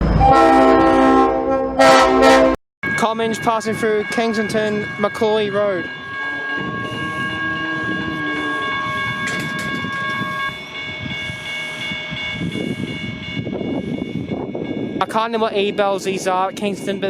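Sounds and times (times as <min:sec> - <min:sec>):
electric train rumbling past: 0:00.0 - 0:17.0
steady high-pitched tones: 0:02.8 - 0:17.0.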